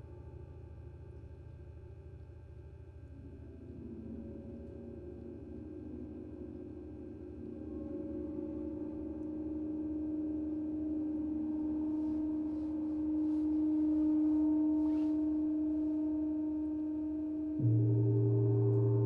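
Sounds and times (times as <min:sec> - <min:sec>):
gongs humming: 0:03.4 - 0:19.0.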